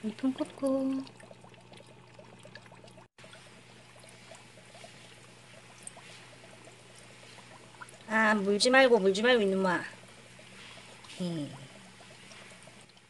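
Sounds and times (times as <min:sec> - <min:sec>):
aquarium water trickling: 0:00.0 - 0:13.0.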